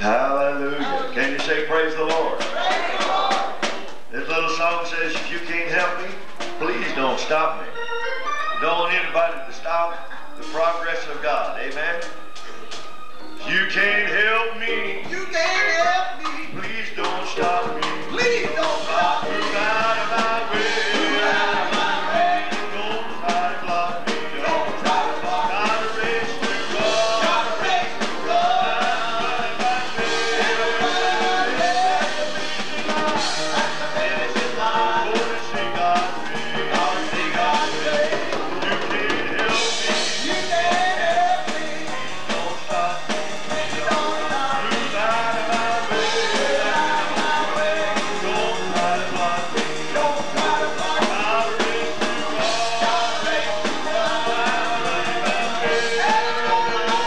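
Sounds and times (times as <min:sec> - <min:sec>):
man singing lead: 0:00.0 - 0:07.8, 0:08.6 - 0:12.2, 0:13.4 - 0:57.0
instrumental accompaniment: 0:00.0 - 0:57.0.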